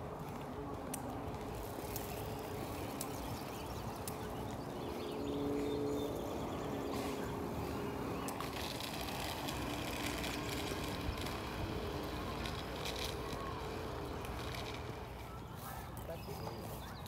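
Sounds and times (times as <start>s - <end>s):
footsteps on paved path: 0.0s - 17.0s
outdoor background noise: 0.0s - 17.0s.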